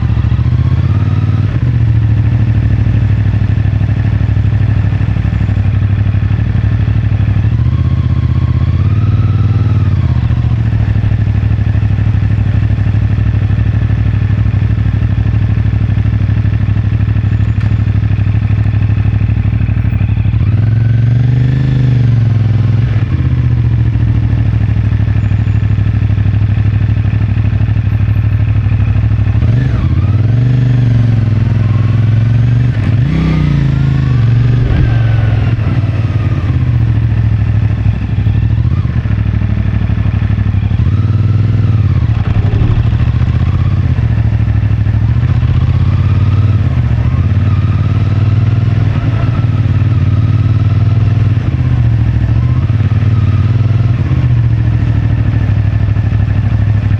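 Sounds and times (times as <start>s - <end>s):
motorcycle engine revving: 0.0s - 25.1s, 28.5s - 56.9s.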